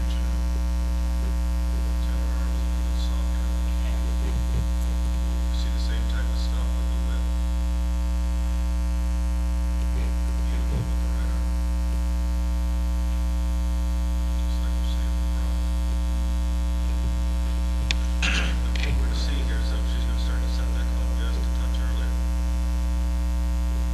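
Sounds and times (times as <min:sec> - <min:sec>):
electrical mains hum: 0:00.0 - 0:23.9.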